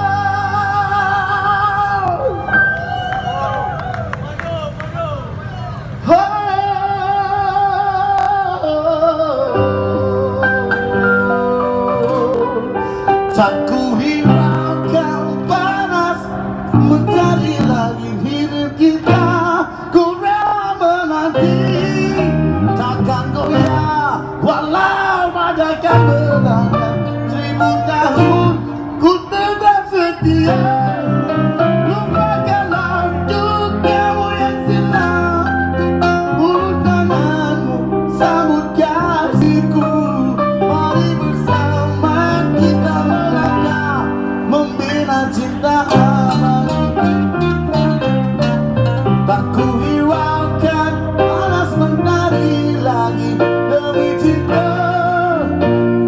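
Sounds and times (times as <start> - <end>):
band playing slow pop ballad: 0.0 - 4.2, 5.4 - 56.0.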